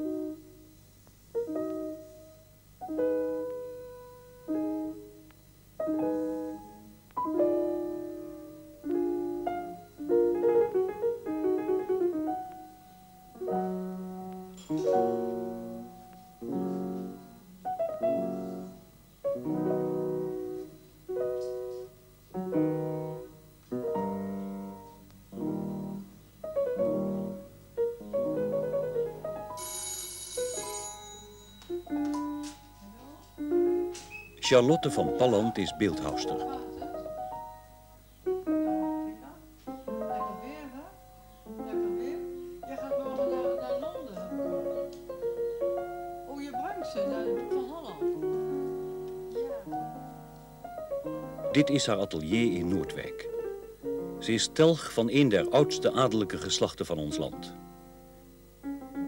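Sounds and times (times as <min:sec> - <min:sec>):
slow solo piano: 0:00.0 - 0:59.0.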